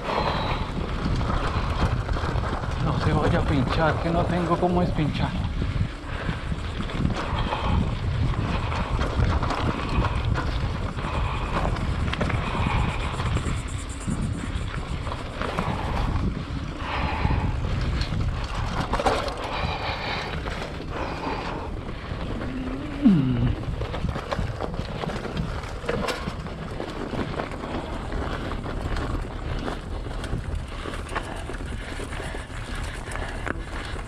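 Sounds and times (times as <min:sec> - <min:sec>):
bike and tyre noise: 0:00.0 - 0:34.0
wind buffeting microphone: 0:00.0 - 0:34.0.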